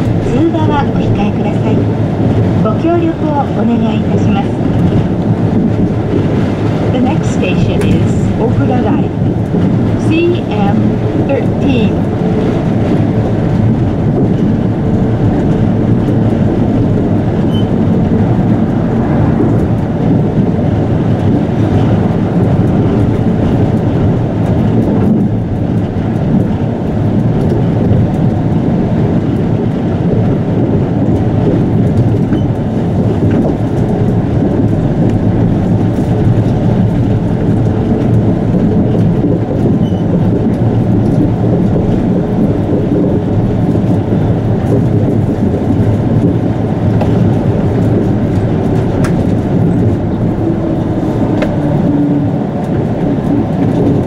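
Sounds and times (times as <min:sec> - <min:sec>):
monorail cabin rumble: 0:00.0 - 0:54.0.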